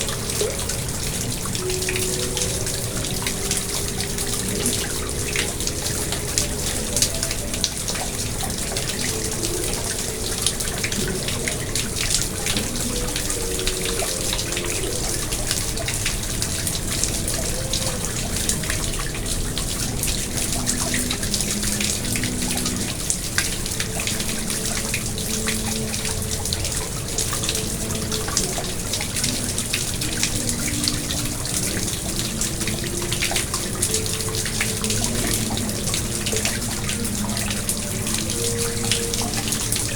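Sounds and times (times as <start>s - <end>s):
pond water splashing and trickling: 0.0s - 39.9s.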